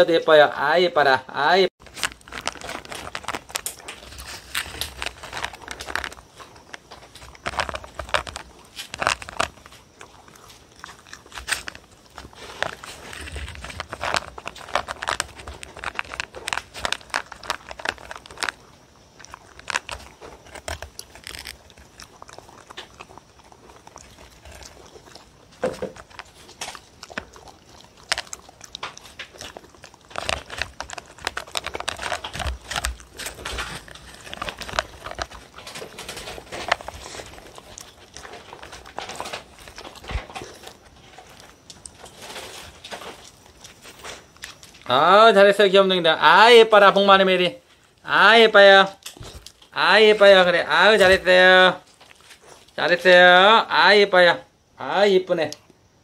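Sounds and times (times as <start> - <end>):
dog crunching dry kibble: 1.8 - 54.3.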